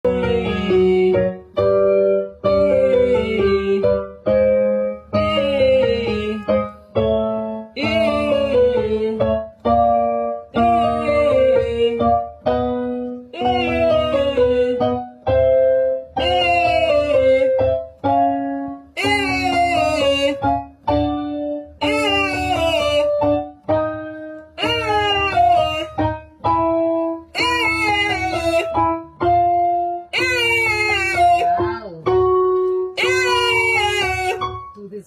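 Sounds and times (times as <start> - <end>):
piano chords: 0.0 - 35.0.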